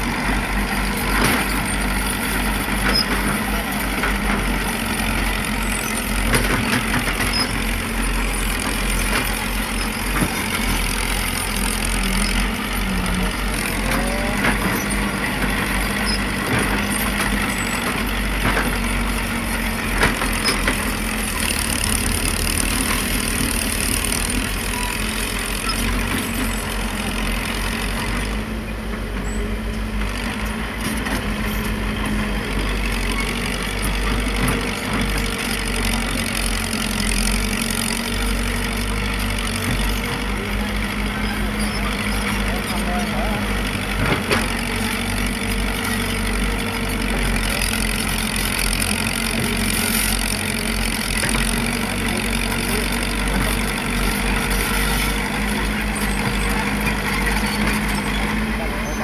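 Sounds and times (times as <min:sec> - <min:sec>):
diesel engines of digging machines: 0:00.0 - 0:59.0.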